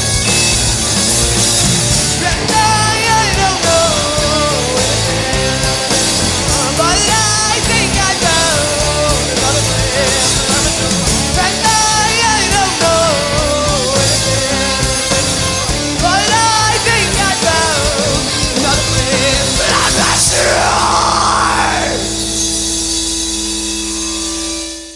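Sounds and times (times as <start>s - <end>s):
rock band playing live: 0.0s - 24.9s.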